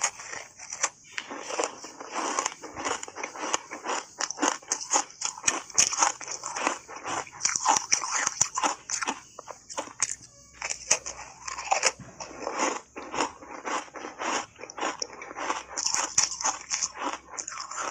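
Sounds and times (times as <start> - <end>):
crunching and chewing ice: 0.0 - 17.9.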